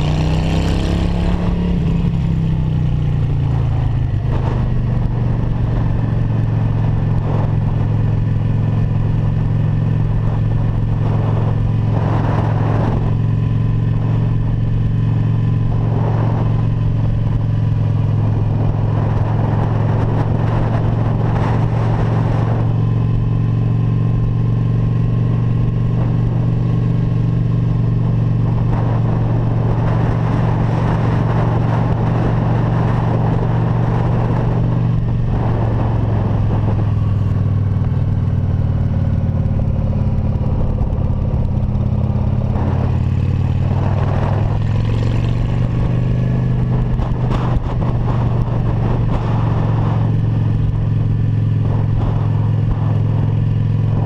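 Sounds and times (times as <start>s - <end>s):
motorcycle engine cruising: 0.0s - 54.0s
road noise: 0.0s - 54.0s
rushing wind: 0.0s - 54.0s.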